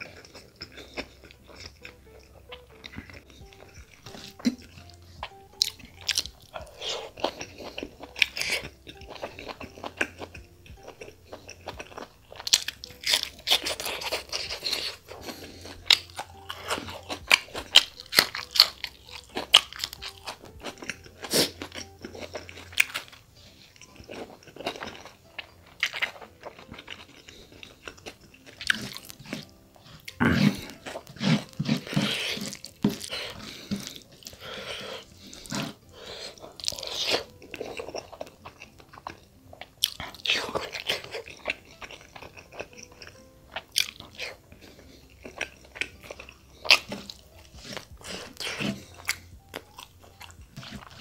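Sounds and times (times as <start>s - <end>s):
chewing and crunching: 0.0s - 51.0s.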